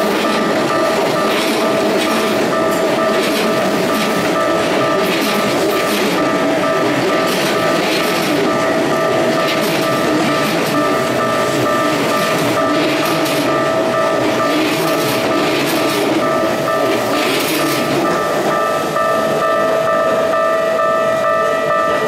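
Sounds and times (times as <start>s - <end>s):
crossing warning bell ringing: 0.0s - 22.0s
train wheels clattering on rails: 0.0s - 22.0s.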